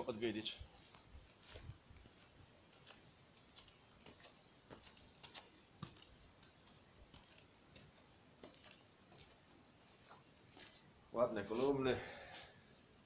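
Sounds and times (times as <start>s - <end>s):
footsteps on stone steps: 0.4s - 12.6s.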